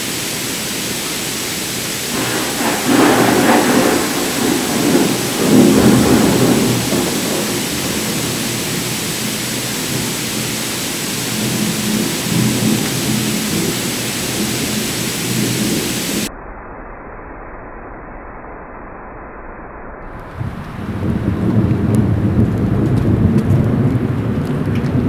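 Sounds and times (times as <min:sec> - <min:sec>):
steady rain hiss: 0:00.0 - 0:16.3, 0:20.1 - 0:25.0
thunder rumbling: 0:00.0 - 0:16.3, 0:20.0 - 0:25.0.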